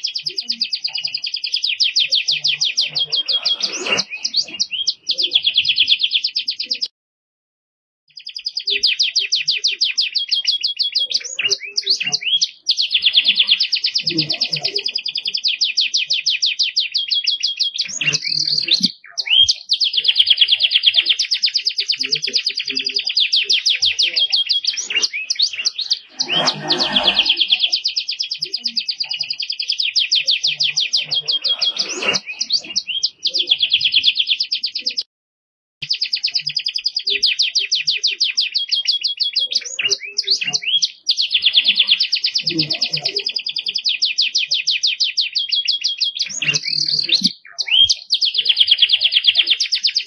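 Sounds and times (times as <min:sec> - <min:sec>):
canary singing trills: 0:00.0 - 0:06.9, 0:08.1 - 0:35.1, 0:35.8 - 0:50.0.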